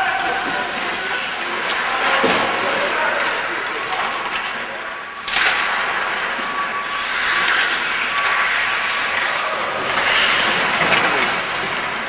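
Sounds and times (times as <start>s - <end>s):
skates on ice: 0.0s - 4.6s, 5.3s - 12.0s.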